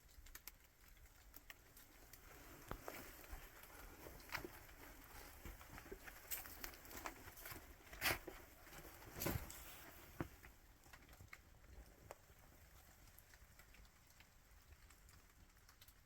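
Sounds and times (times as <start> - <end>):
faint taps and patter: 0.0 - 16.0.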